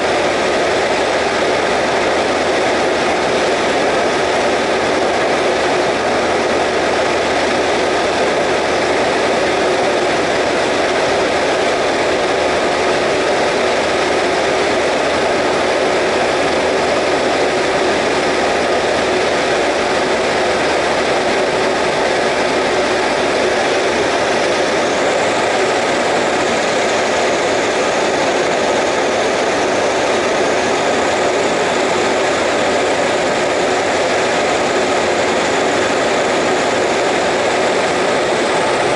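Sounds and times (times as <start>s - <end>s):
light aircraft engine running: 0.0s - 38.9s.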